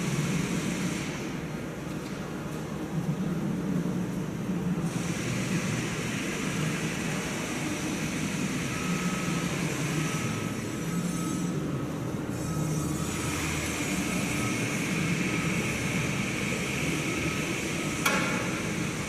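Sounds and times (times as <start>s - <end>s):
machinery humming and hissing: 0.0s - 19.0s.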